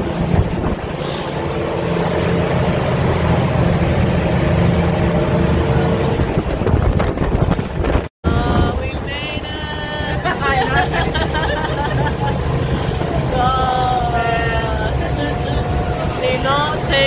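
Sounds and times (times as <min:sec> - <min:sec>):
constant rushing noise: 0:00.0 - 0:17.0
ferry engine running: 0:00.0 - 0:17.0.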